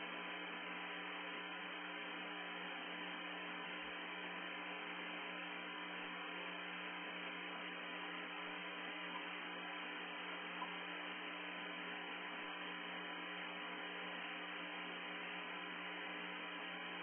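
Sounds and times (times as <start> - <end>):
electrical hum: 0.0 - 17.0
static hiss: 0.0 - 17.0.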